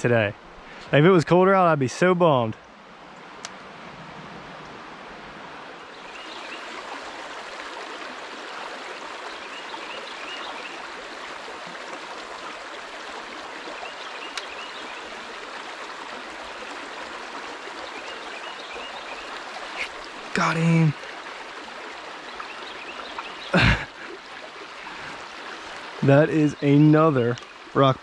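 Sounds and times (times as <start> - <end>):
creek water flowing over rocks: 0.0 - 28.0.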